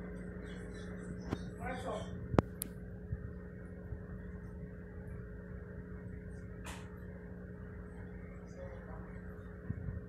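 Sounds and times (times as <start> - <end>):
aquarium filter humming: 0.0 - 10.0.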